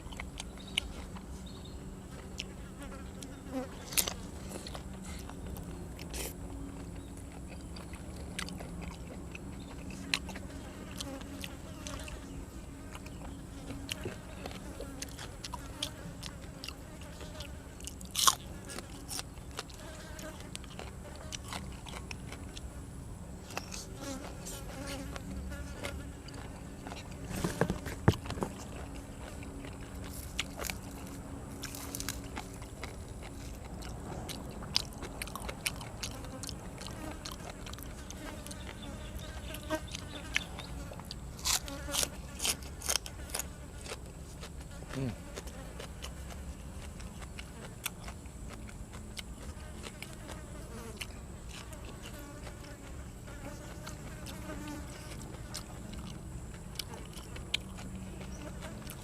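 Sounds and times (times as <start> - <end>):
crunching raw vegetables: 0.0 - 22.7, 23.4 - 59.0
person chewing food: 0.0 - 22.8, 23.4 - 59.0.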